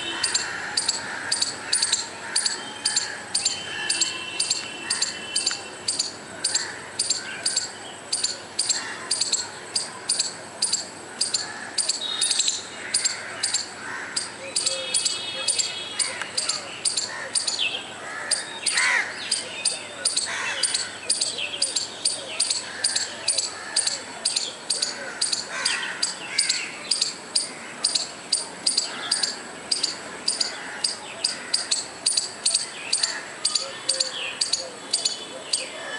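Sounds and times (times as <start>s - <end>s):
squirrel chirping: 0.1s - 35.7s.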